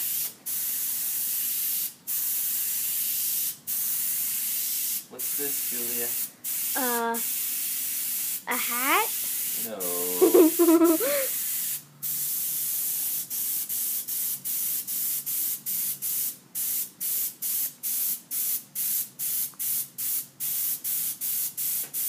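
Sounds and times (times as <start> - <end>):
airbrush spraying hiss: 0.0 - 22.0.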